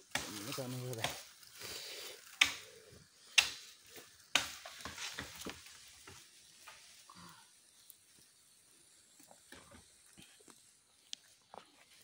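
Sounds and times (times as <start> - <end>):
bamboo popping with hiss: 0.0 - 12.0
wood fire crackling and popping: 0.0 - 12.0.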